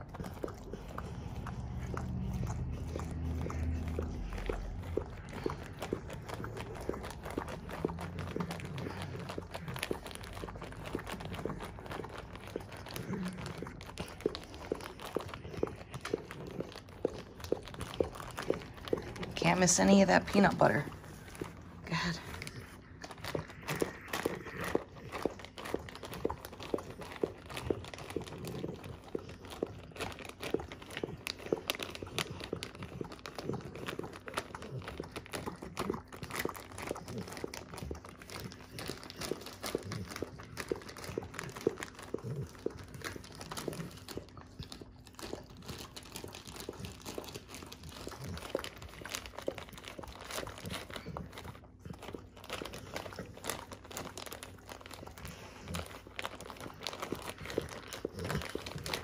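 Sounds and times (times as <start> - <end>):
dog licking: 0.0 - 59.0
plastic bag crinkling: 0.0 - 59.0.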